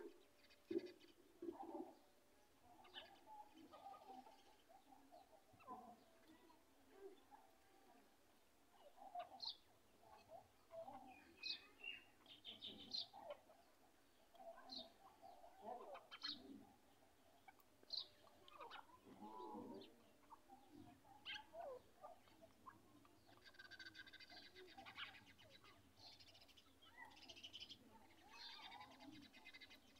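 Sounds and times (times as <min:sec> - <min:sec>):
bird chirps and calls: 0:00.0 - 0:02.0, 0:02.8 - 0:07.3, 0:08.8 - 0:29.9.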